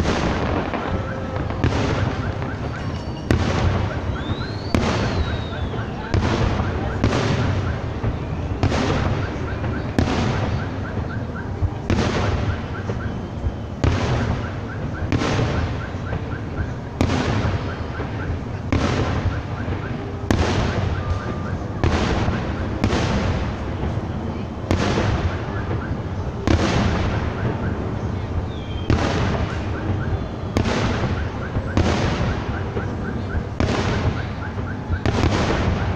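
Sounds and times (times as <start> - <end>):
fireworks bursting with sharp bangs: 0.0 - 35.9.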